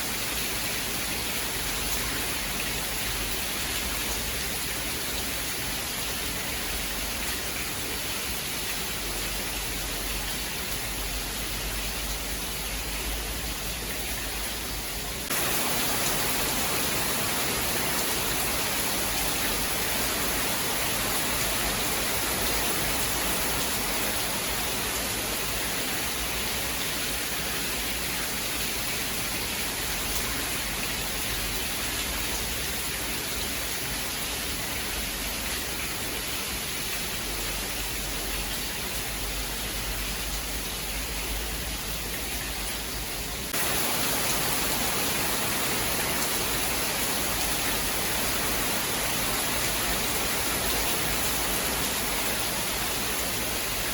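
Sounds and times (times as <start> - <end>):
dense rain hiss: 0.0 - 53.9.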